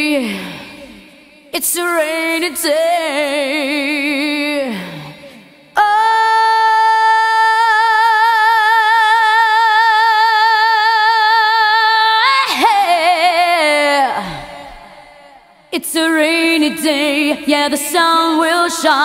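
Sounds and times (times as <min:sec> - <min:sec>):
woman singing a cappella: 0:00.0 - 0:19.0.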